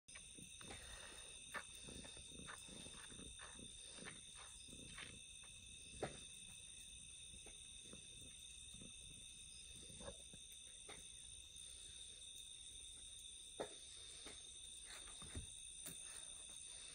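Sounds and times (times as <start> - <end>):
night insects trilling: 0.1 - 16.9.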